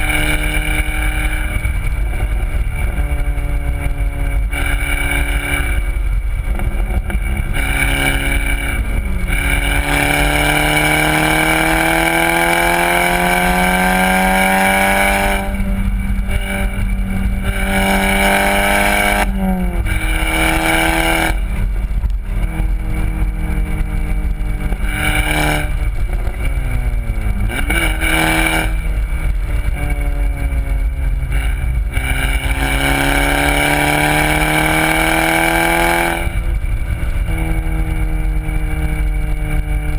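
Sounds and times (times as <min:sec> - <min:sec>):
car engine accelerating hard: 0:00.0 - 0:39.9
wind and road noise: 0:00.0 - 0:39.9.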